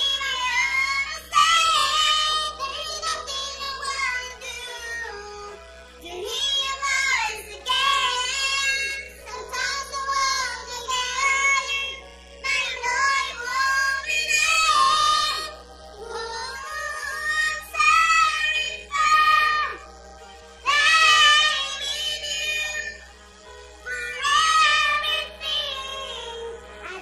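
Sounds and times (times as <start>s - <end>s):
backing music: 0.0s - 27.0s
sped-up high-pitched singing: 0.0s - 27.0s.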